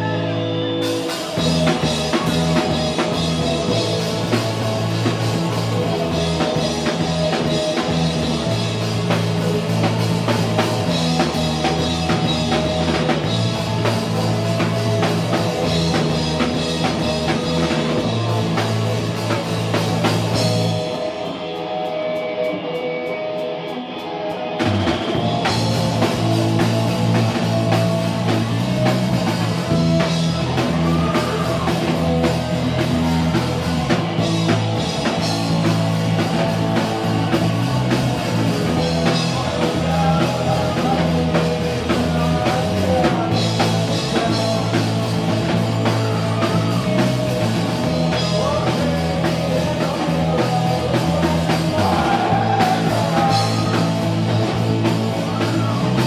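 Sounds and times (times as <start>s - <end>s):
distorted electric guitars: 0.0s - 56.0s
drum kit: 0.0s - 56.0s
electric bass: 0.0s - 56.0s.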